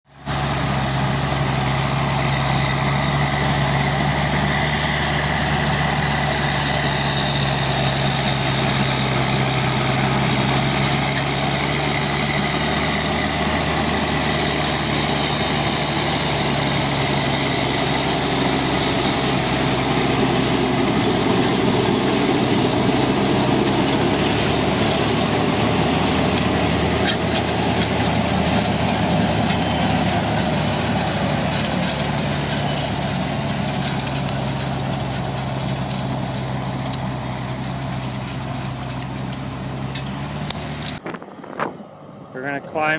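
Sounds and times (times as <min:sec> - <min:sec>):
tractor engine droning: 0:00.0 - 0:42.9.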